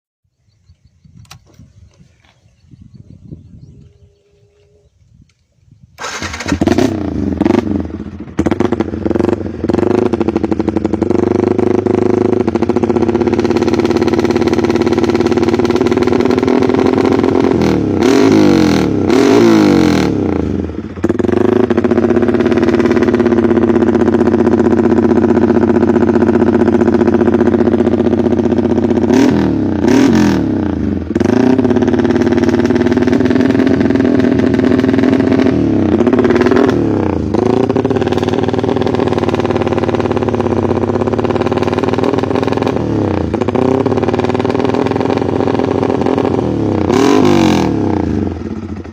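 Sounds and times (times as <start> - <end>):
motorcycle engine revving: 0.8 - 5.3, 5.9 - 48.9.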